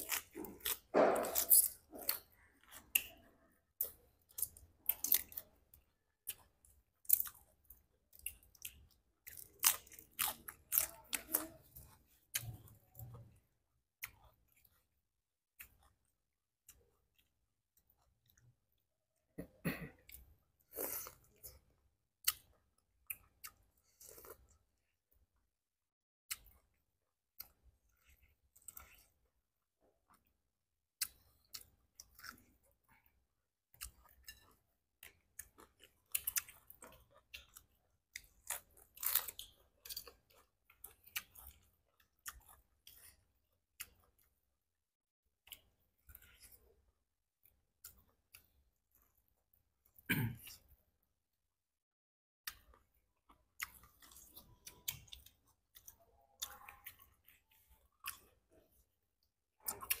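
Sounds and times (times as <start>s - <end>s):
chewing and crunching: 0.0s - 18.8s, 20.0s - 25.3s, 26.3s - 44.5s, 45.3s - 50.8s, 52.4s - 60.0s.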